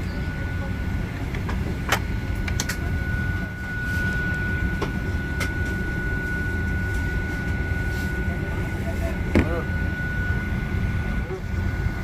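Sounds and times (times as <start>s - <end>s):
aircraft cabin low rumble: 0.0s - 12.0s
high-pitched whine: 0.0s - 12.0s.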